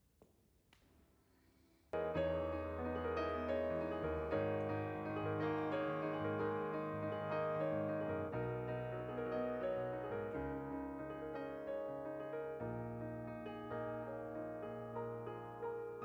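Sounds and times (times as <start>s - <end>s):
background piano music: 2.0s - 16.0s.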